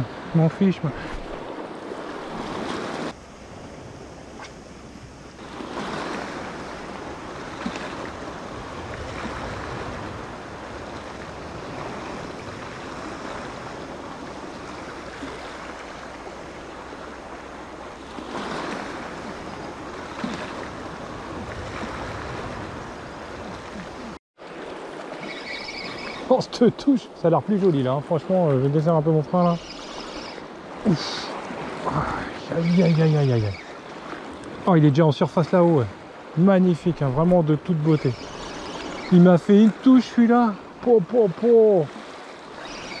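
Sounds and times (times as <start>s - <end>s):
sea waves on shore: 0.0s - 43.0s.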